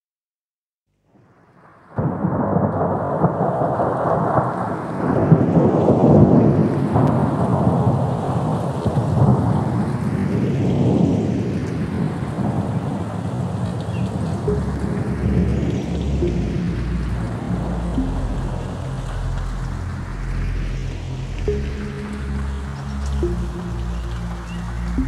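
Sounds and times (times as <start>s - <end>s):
thunder rumble: 1.9s - 25.0s
rain hiss: 2.2s - 25.0s.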